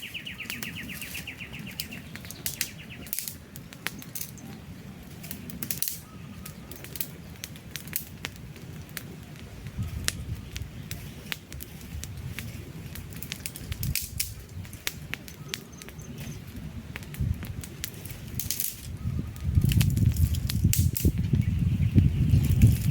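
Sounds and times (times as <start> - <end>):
campfire crackling: 0.0 - 22.9
low rush of flame: 0.0 - 22.9
sharp pops of fire: 0.0 - 22.9.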